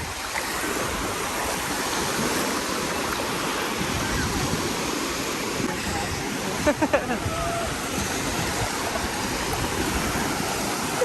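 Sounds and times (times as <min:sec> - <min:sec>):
sea water splashing and lapping: 0:00.0 - 0:11.0.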